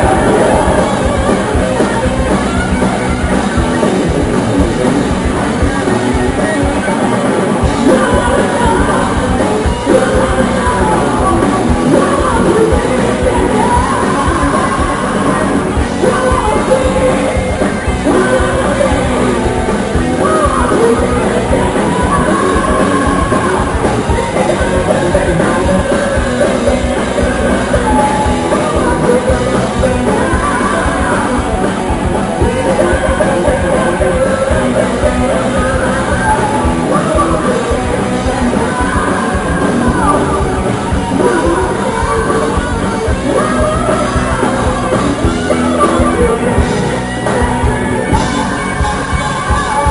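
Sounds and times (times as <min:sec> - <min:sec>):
metal band playing: 0:00.0 - 0:49.9
person singing: 0:00.0 - 0:49.9.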